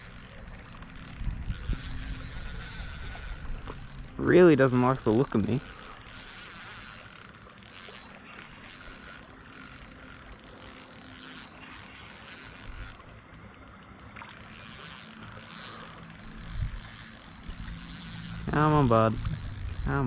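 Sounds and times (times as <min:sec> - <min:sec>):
fishing reel clicking and whirring: 0:00.0 - 0:20.0.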